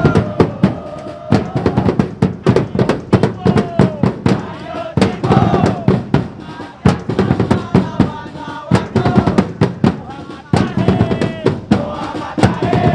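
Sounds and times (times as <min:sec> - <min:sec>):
crowd chanting and singing: 0:00.0 - 0:12.9
marching bass drums: 0:00.0 - 0:12.9.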